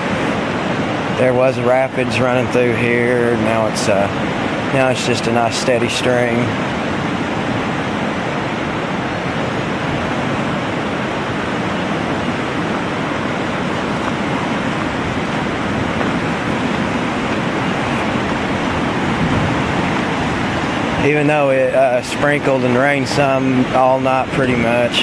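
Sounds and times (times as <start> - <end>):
river rushing in rapids: 0.0 - 25.0.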